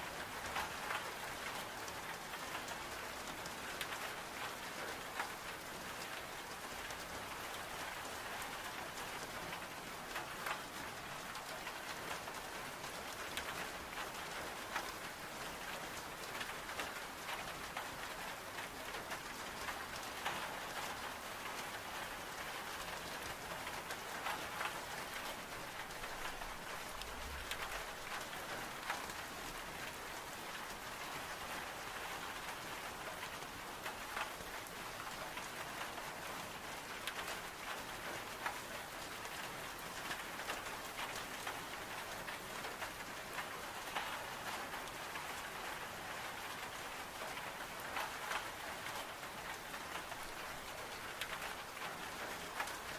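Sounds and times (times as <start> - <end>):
rain pattering on window glass: 0.1 - 52.9.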